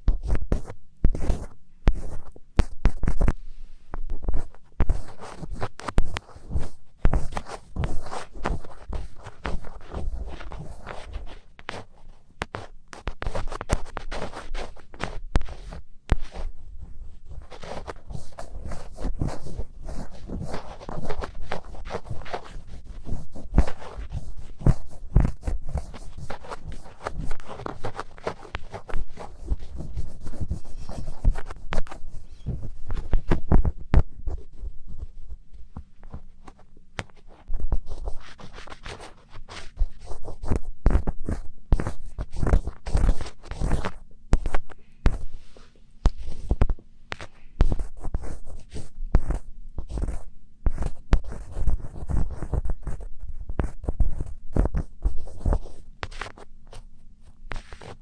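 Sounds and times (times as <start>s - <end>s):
crackly scratching and rubbing: 0.0s - 58.0s.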